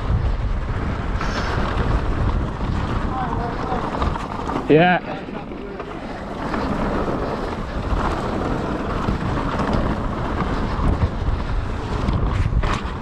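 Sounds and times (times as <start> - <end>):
bike rumbling on trail: 0.0 - 13.0
wind rushing over microphone: 0.0 - 13.0.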